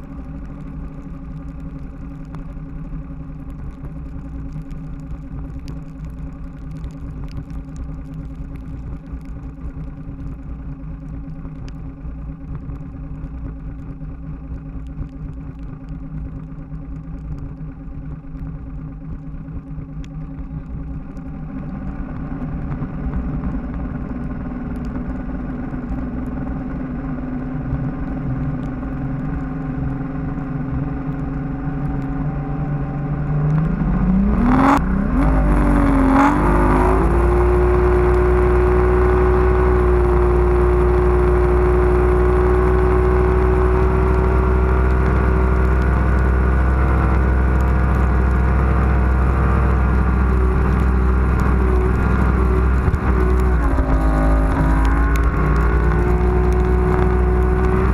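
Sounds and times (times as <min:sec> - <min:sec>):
outboard motor running fast: 0:00.0 - 0:57.9.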